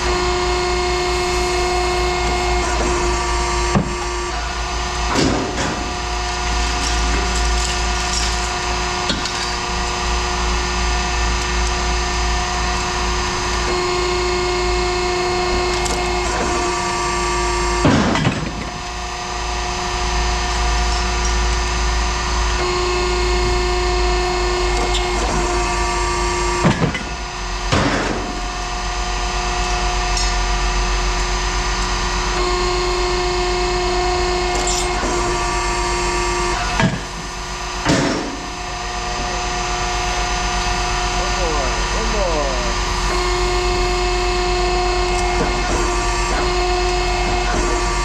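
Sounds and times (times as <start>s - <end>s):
machinery droning: 0.0s - 48.0s.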